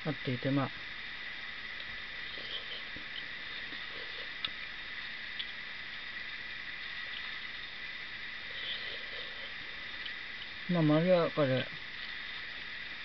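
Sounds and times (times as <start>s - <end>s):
background hiss: 0.0s - 13.0s
high-pitched whine: 0.0s - 13.0s.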